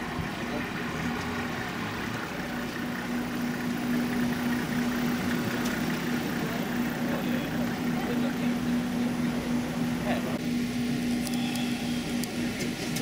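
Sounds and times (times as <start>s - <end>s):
minibus engine idling: 0.0s - 13.0s.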